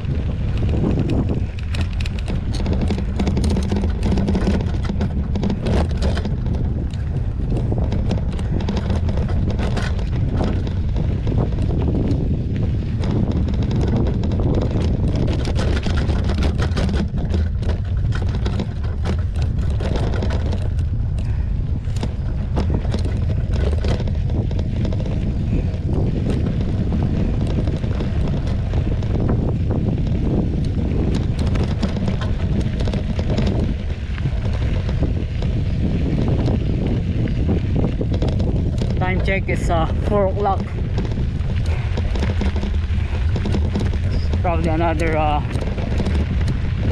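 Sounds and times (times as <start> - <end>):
bike knocking and rattling: 0.0 - 46.9
wind rushing over microphone: 0.0 - 46.9.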